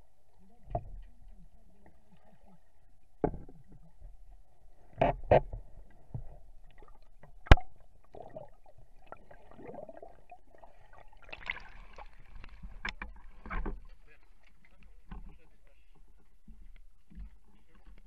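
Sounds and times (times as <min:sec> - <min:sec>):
underwater clicks and knocks: 0:00.6 - 0:02.2, 0:03.1 - 0:09.8, 0:11.3 - 0:18.0.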